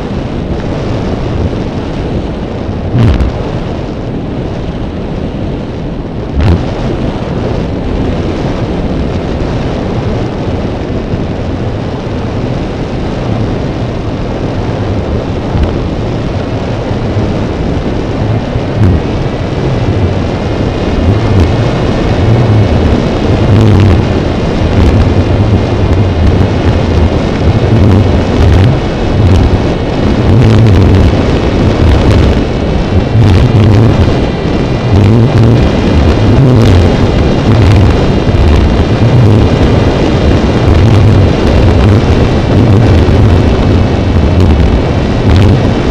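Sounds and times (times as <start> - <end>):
faint high whine: 0.0 - 10.4, 11.8 - 45.9
wind buffeting microphone: 0.0 - 45.9.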